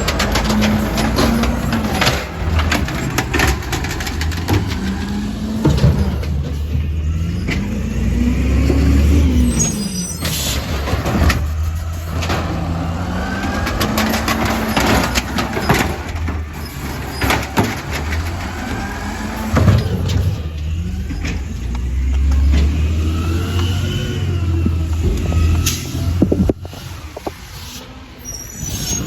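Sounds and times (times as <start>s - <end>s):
knocks and clanks: 0.0s - 7.9s, 10.2s - 27.6s
truck engine running: 0.0s - 28.0s.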